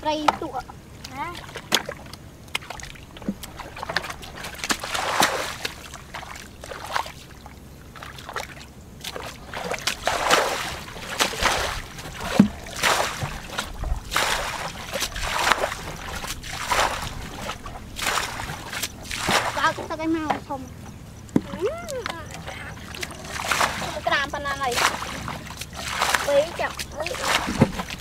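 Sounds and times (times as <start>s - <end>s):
bucket splashing muddy water: 0.0s - 28.0s.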